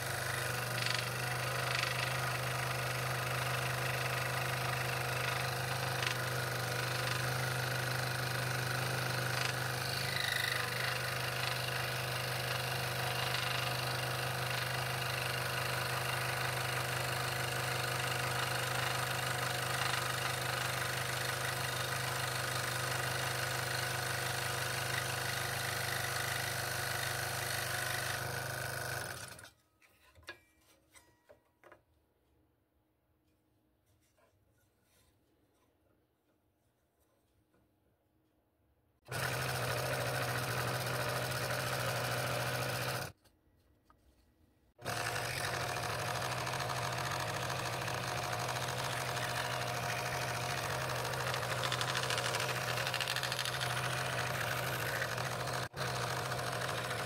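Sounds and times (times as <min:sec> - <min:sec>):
scroll saw cutting wood: 0:00.0 - 0:29.6, 0:39.1 - 0:43.2, 0:44.8 - 0:57.0.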